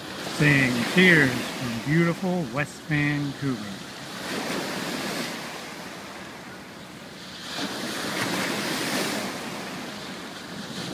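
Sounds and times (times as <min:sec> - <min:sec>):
ocean waves washing onto beach: 0:00.0 - 0:10.9.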